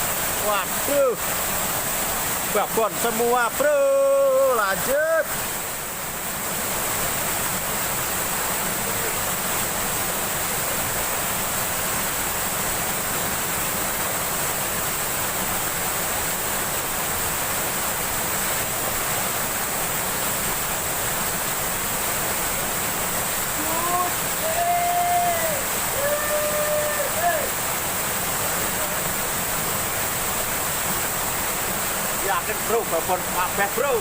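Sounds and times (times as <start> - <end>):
stream water flowing over rocks: 0.0 - 34.0.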